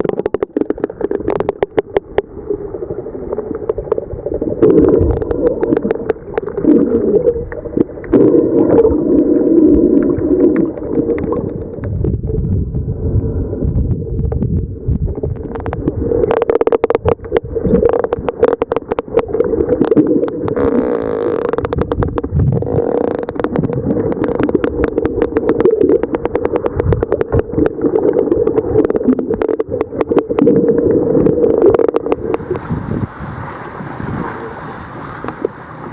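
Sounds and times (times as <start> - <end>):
whale clicks underwater: 0.0 - 33.0
low rumble of water: 0.0 - 35.9.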